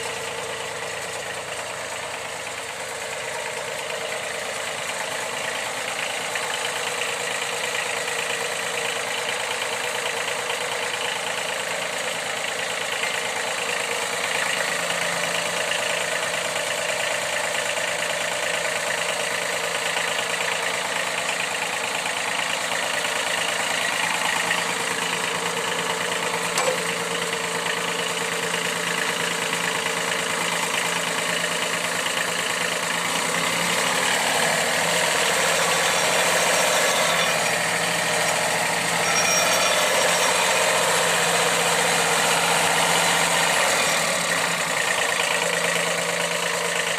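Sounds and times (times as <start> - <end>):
riding lawn mower engine running: 0.0 - 46.9.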